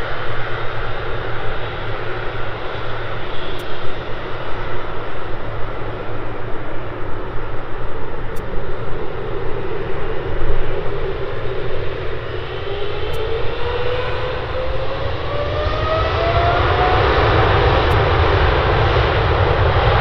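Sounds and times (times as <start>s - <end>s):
jet engines spooling up: 0.0s - 20.0s.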